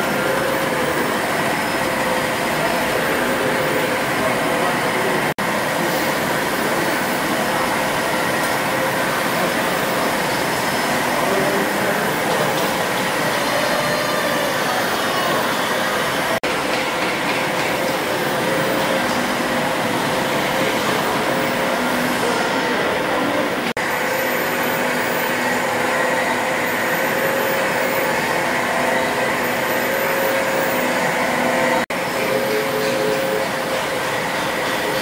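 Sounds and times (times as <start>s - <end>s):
steam engines running: 0.0s - 35.0s.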